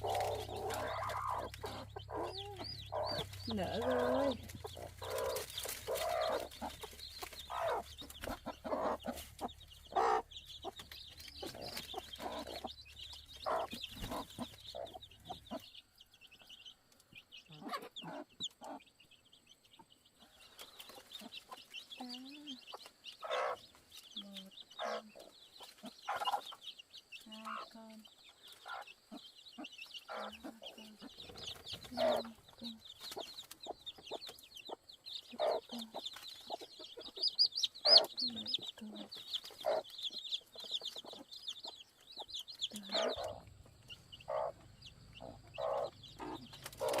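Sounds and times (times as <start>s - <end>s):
chicks peeping: 0.0s - 47.0s
hen clucking: 0.0s - 47.0s.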